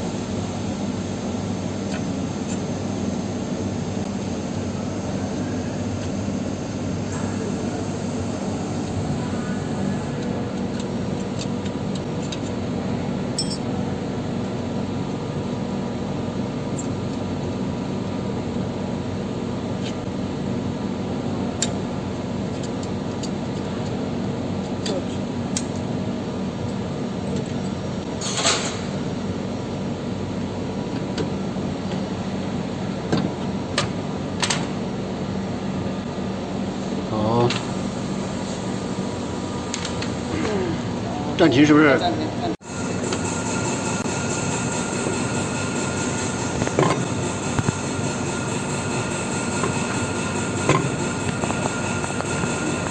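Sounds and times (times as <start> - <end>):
machinery humming: 0.0 - 22.4, 29.0 - 52.9.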